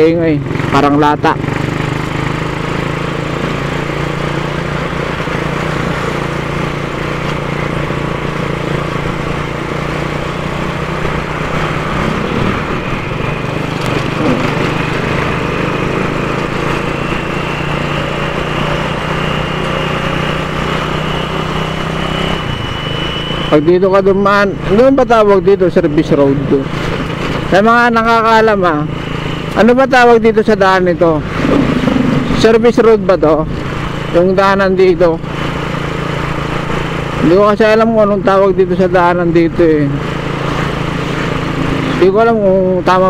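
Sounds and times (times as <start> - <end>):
motorcycle engine running: 0.0 - 43.0
wind and road noise: 0.0 - 43.0.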